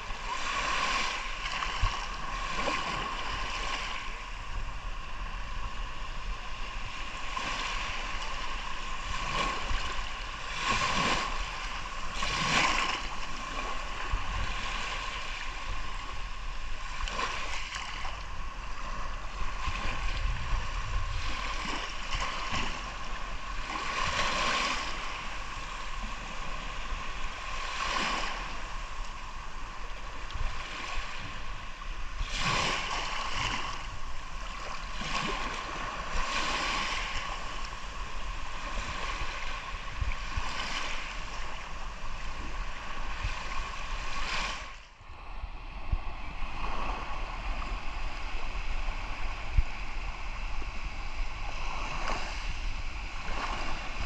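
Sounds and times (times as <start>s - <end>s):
low rumble of surf: 0.0s - 54.0s
waves breaking and washing in: 0.0s - 54.0s.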